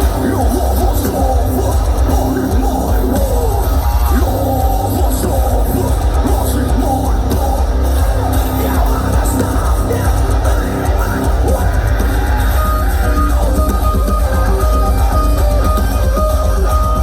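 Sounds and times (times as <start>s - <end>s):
distorted guitars: 0.0s - 17.0s
drums: 0.0s - 17.0s
heavy bass: 0.0s - 17.0s
yelled vocals: 0.0s - 17.0s.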